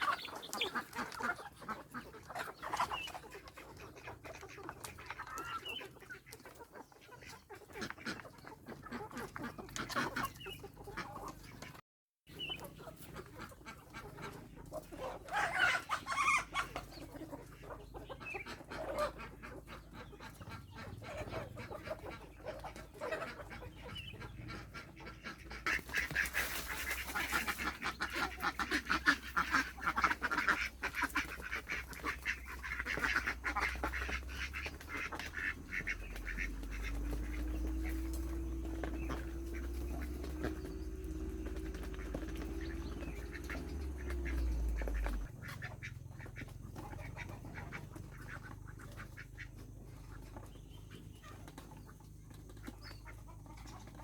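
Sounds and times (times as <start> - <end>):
chickens clucking: 0.0 - 54.0
ducks: 0.0 - 54.0.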